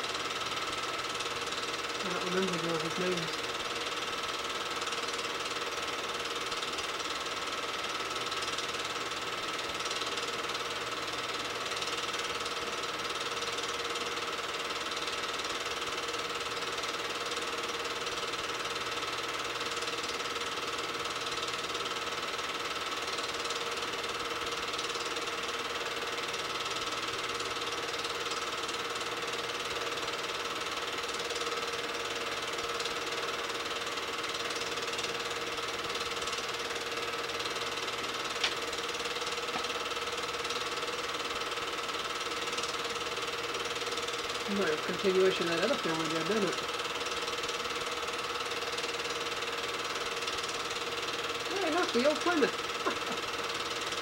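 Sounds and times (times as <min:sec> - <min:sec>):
film projector clatter: 0:00.0 - 0:54.0
projector whine: 0:00.0 - 0:54.0.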